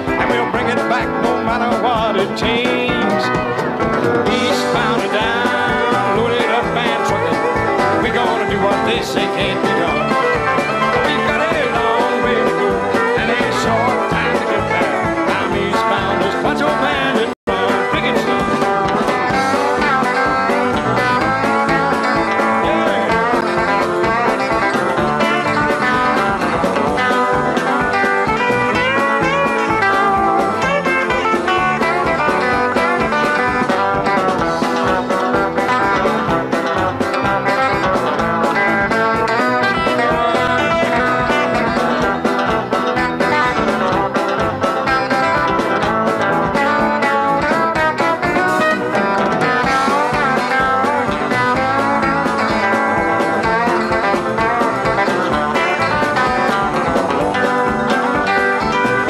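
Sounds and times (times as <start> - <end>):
country music with guitar: 0.0 - 59.0.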